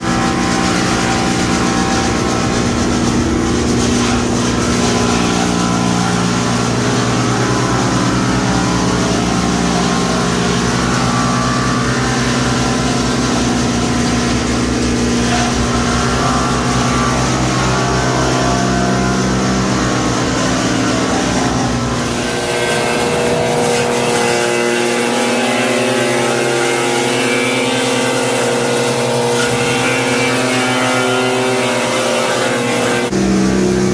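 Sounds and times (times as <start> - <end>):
wood chipper chipping: 0.0 - 33.9.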